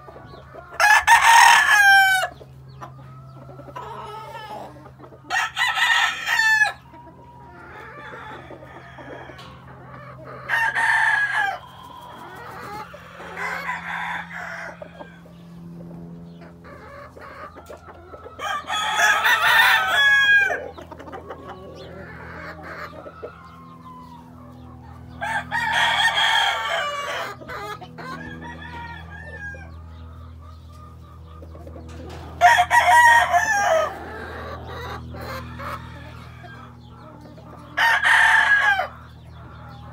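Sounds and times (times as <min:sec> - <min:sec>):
rooster clucking: 0:00.0 - 0:39.9
roosters crowing: 0:00.0 - 0:39.9.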